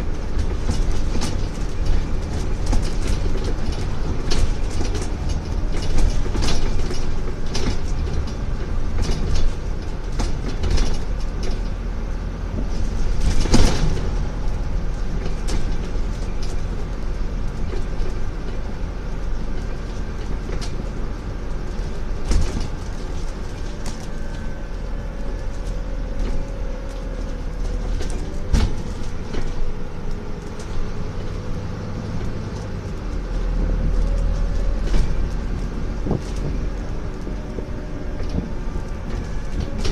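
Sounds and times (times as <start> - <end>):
body knocks and rattles: 0.0 - 11.8, 12.5 - 39.9
bus diesel engine running: 0.0 - 39.9
road rumble: 0.0 - 39.9.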